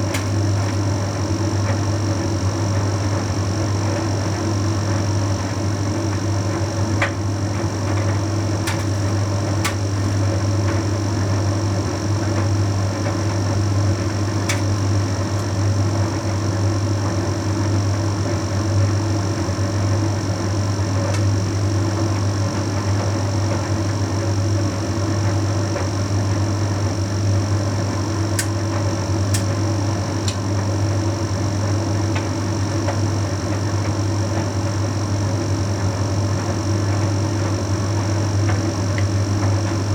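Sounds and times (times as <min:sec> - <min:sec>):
tumble dryer humming: 0:00.0 - 0:39.9.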